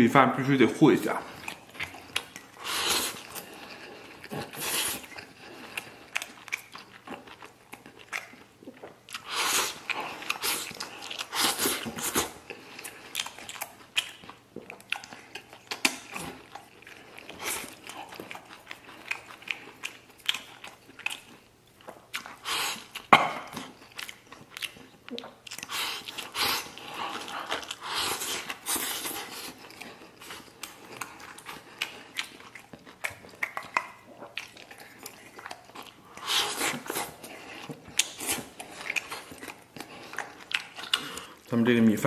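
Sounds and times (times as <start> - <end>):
person chewing: 1.0 - 41.5.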